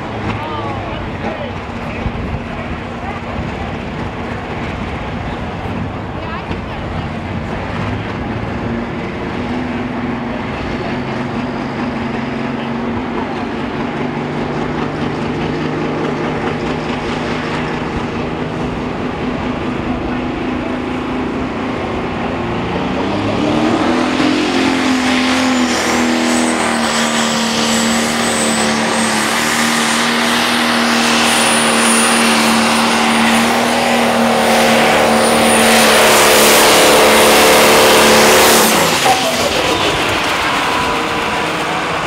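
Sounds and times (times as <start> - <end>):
diesel engine revving: 0.0 - 42.0.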